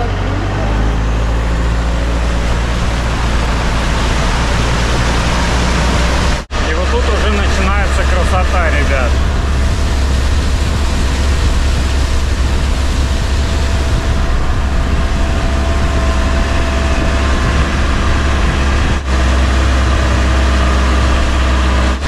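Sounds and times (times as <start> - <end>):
boat engine droning: 0.0 - 22.0
rushing wind: 0.0 - 22.0
water noise: 0.0 - 22.0.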